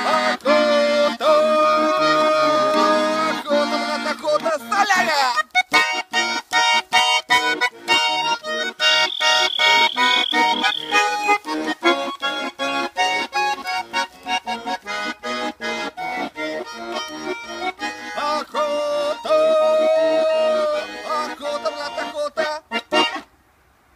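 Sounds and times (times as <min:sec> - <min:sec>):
button accordion playing chords: 0:00.0 - 0:04.6, 0:05.6 - 0:23.3.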